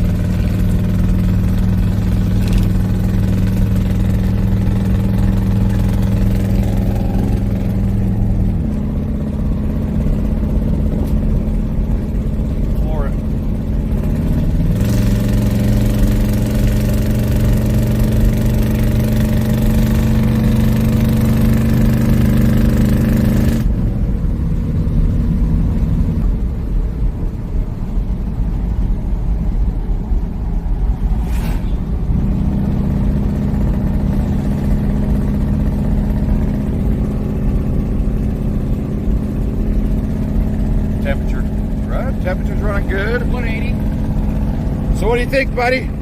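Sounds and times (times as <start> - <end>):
pickup truck engine running: 0.0 - 22.9, 23.6 - 46.0.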